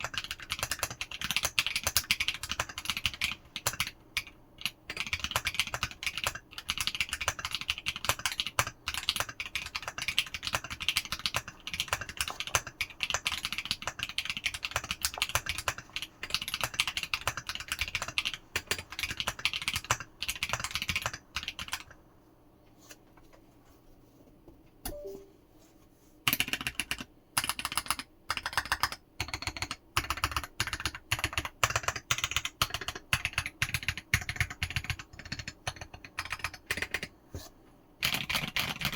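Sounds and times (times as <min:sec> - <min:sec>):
mechanical keyboard typing: 0:00.0 - 0:22.0, 0:26.3 - 0:37.1, 0:38.0 - 0:38.9.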